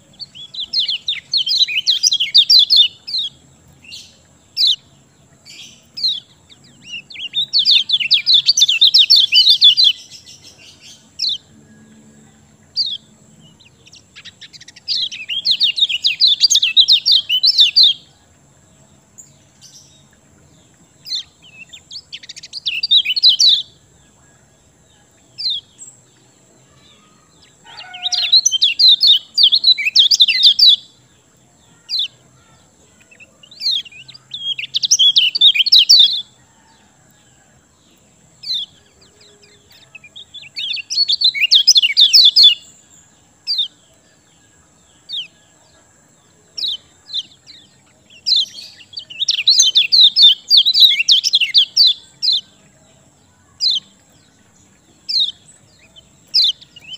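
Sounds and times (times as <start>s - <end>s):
sharp bird chirps: 0.0s - 36.9s, 38.4s - 44.3s, 46.4s - 52.6s, 53.3s - 56.9s.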